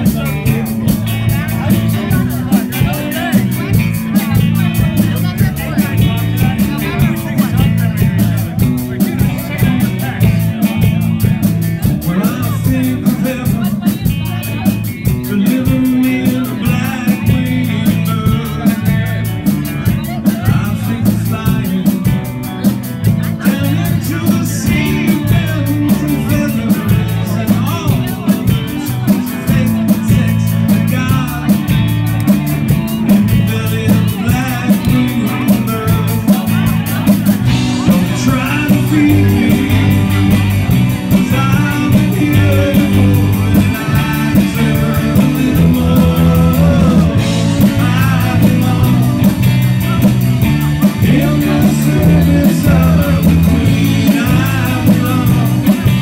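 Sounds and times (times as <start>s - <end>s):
man singing into microphone: 0.0s - 31.9s, 32.7s - 56.0s
rock band playing live: 0.0s - 56.0s.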